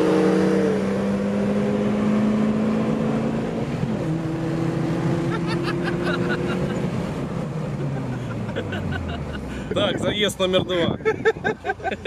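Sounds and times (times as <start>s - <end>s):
car engine running inside cabin: 0.0s - 12.0s.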